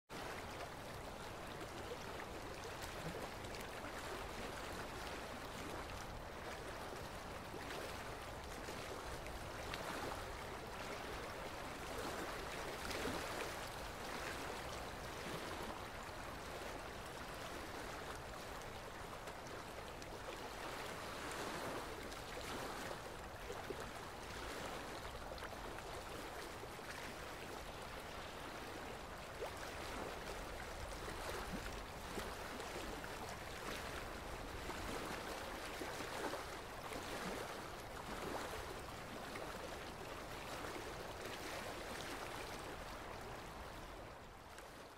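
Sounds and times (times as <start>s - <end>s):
small waves lapping on sand: 0.1s - 44.9s.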